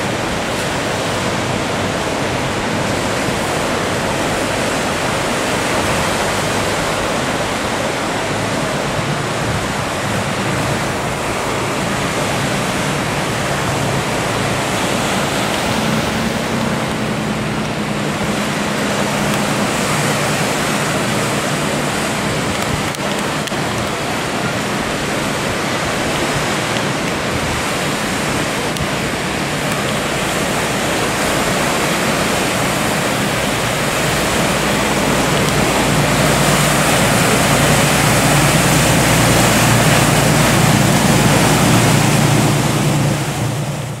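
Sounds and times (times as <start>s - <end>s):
boat engine hum: 0.0s - 44.0s
surf and breaking waves: 0.0s - 44.0s.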